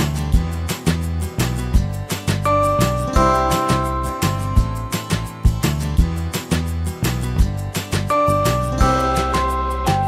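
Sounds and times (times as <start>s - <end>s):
upbeat music with guitar and beat: 0.0s - 10.0s.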